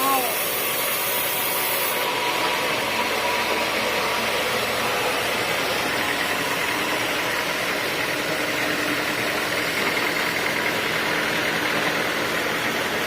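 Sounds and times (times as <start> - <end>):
sawmill sawing wood: 0.0 - 13.0.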